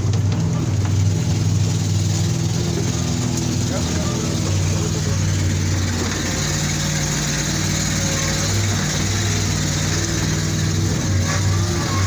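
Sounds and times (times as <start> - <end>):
heavy mechanical noise: 0.0 - 12.0
heavy vehicle engine running: 0.0 - 12.0.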